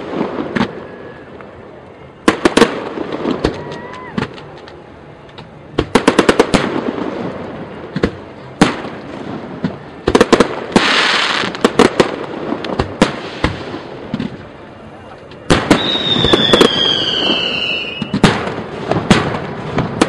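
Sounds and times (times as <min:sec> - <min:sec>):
fireworks bangs: 0:00.0 - 0:04.8, 0:05.4 - 0:14.6, 0:15.4 - 0:20.0
fireworks hissing crackle: 0:00.0 - 0:20.0.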